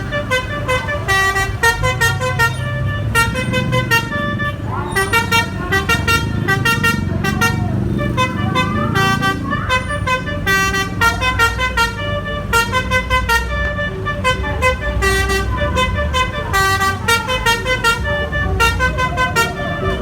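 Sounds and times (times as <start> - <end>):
bus engine rumble: 0.0 - 20.0
musical bus air horn: 0.0 - 20.0.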